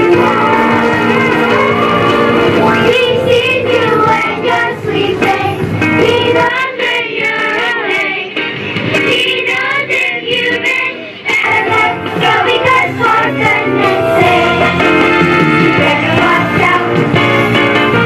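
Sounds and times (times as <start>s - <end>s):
children's choir singing: 0.0s - 18.0s
musical accompaniment: 0.0s - 18.0s.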